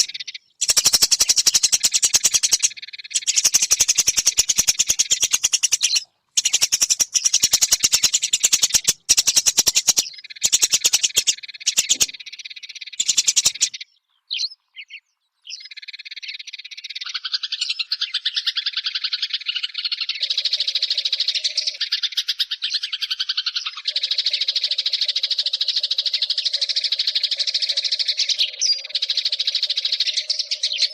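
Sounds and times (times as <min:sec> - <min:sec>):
sparrow chirping: 0:00.0 - 0:30.9.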